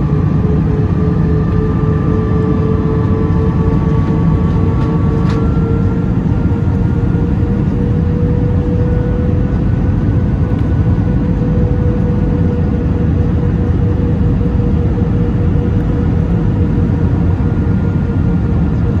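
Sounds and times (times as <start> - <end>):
airplane cabin engine roar: 0.0 - 19.0
humming engine tone: 0.0 - 19.0.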